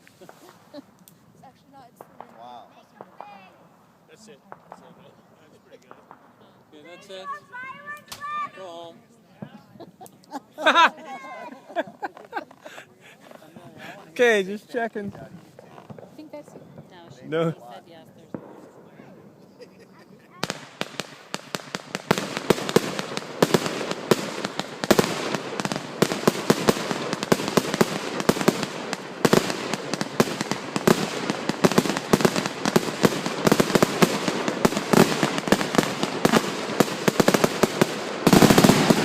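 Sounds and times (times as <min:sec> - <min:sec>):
fireworks cracks and bangs: 0:00.0 - 0:00.9, 0:01.8 - 0:08.5, 0:13.1 - 0:17.3, 0:18.3 - 0:39.0.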